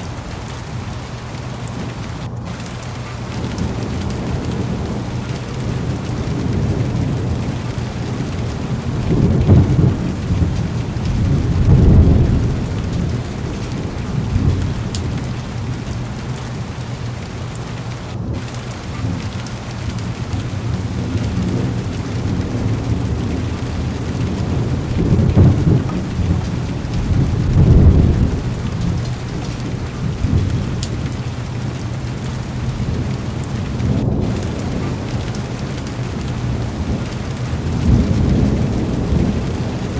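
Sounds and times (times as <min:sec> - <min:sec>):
heavy rain on car: 0:00.0 - 0:39.9
low thunder rolling: 0:00.0 - 0:39.9.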